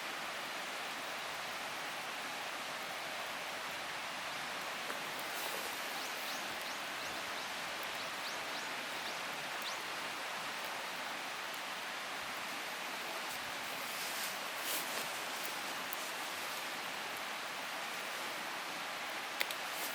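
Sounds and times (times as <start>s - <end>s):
wood fire hissing and crackling: 0.0s - 19.9s.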